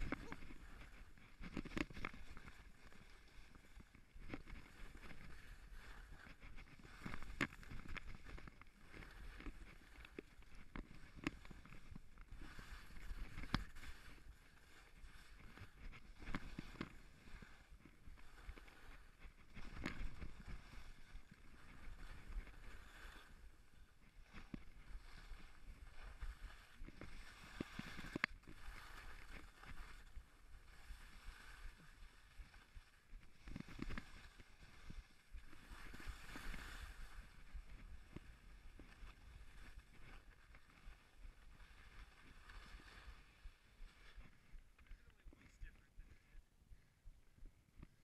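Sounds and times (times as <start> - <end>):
skis scraping through snow: 0.0 - 44.7.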